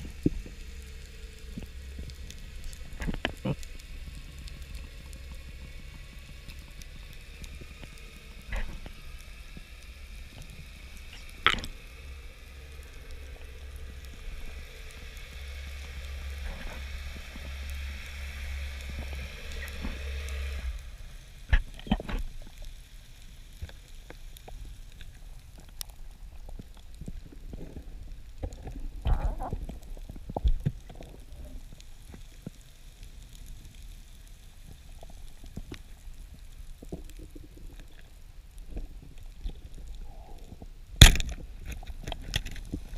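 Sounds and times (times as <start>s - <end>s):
fine constant crackle: 0.0s - 42.9s
low underwater hum with tones: 0.0s - 42.9s.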